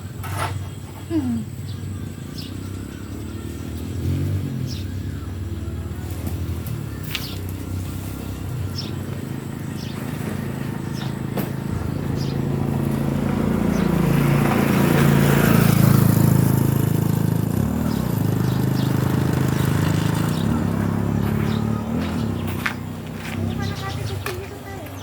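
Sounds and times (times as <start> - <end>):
motorcycle engine running: 1.4 - 25.0.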